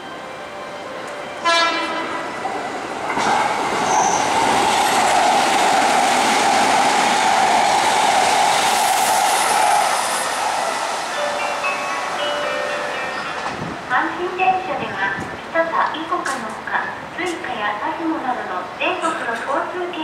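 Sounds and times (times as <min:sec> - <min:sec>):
electric train running past: 0:00.0 - 0:16.2
high wheel and rail noise: 0:00.0 - 0:17.6.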